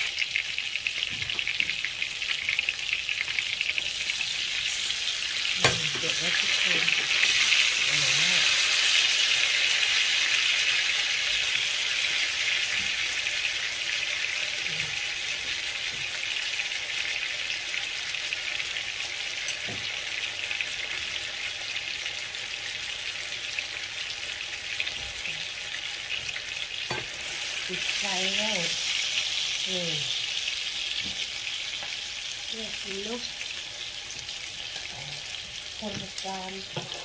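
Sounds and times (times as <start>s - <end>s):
steaks sizzling in frying pan: 0.0s - 37.0s.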